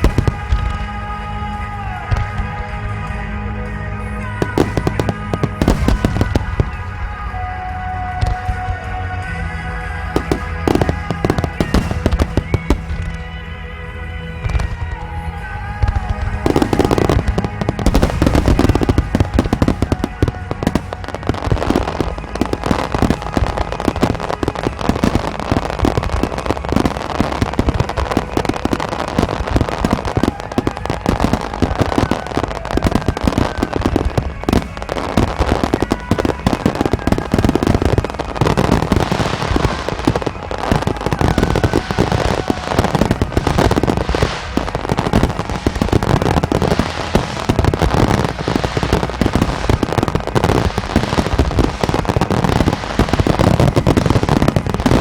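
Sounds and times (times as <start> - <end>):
fireworks bangs and cracks: 0.0 - 55.0
fireworks crackling: 0.0 - 55.0
music from loudspeakers: 0.0 - 55.0.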